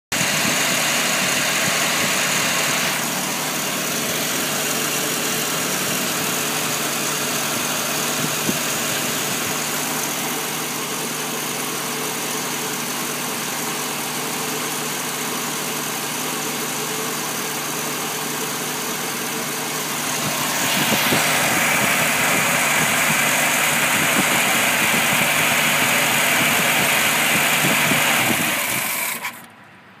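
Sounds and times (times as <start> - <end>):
car engine idling: 0.1 - 30.0.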